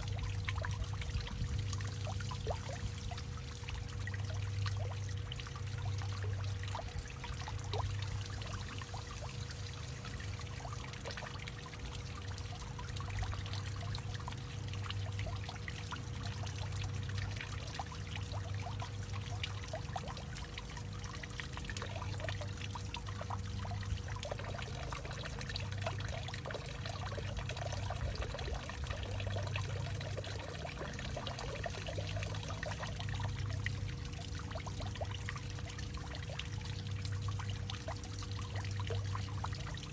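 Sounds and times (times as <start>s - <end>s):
faint steady hum: 0.0s - 39.9s
water trickling and splashing: 0.0s - 39.9s.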